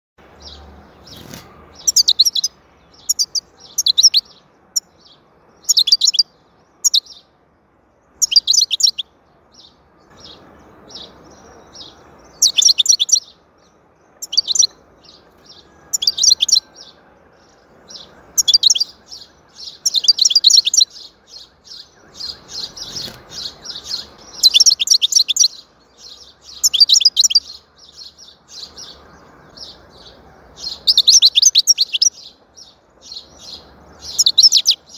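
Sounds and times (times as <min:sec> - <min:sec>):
goldfinch twittering song: 0:00.2 - 0:07.4, 0:08.0 - 0:34.9.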